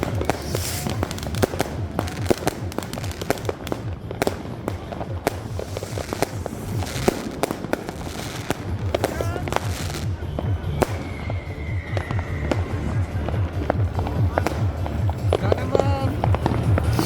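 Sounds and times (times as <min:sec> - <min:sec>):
fireworks bangs and pops: 0:00.0 - 0:17.0
hissing crackle: 0:00.0 - 0:17.0.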